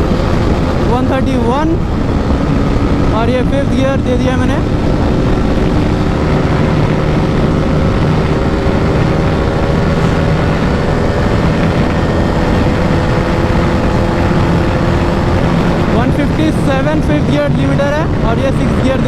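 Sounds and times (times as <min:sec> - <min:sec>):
motorcycle engine at high revs: 0:00.0 - 0:19.0
wind rush: 0:00.0 - 0:19.0.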